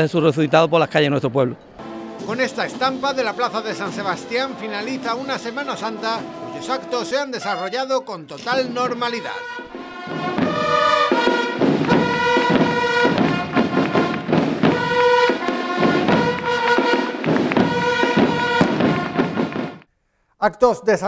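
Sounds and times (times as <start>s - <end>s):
steady drum beat: 1.8s - 7.3s, 8.4s - 19.8s
band playing a march: 1.8s - 19.9s.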